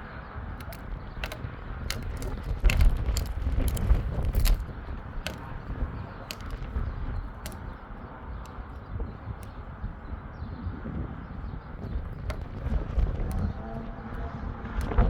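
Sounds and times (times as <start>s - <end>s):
wind buffeting microphone: 0.0s - 15.0s
sharp clicks and crackles: 0.3s - 10.3s, 11.4s - 15.0s.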